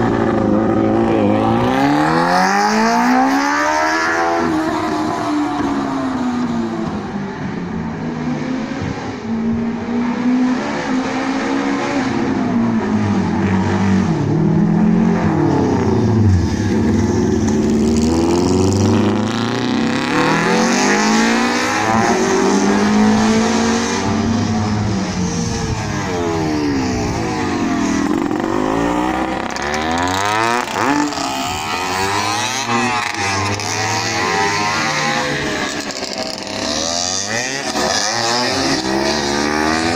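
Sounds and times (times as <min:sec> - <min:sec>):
motorcycles revving and passing by: 0:00.0 - 0:39.9.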